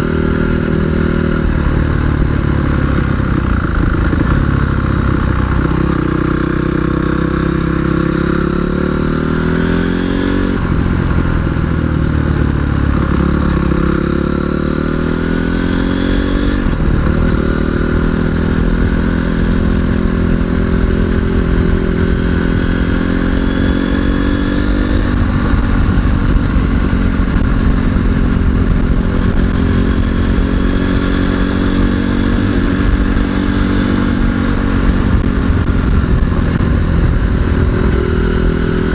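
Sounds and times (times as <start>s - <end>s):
off-road motorcycle engine revving: 0.0s - 38.9s.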